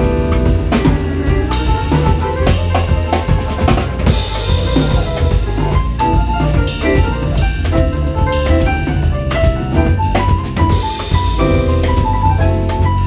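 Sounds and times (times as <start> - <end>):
bass drum: 0.0 - 13.0
jazz quartet playing: 0.0 - 13.0.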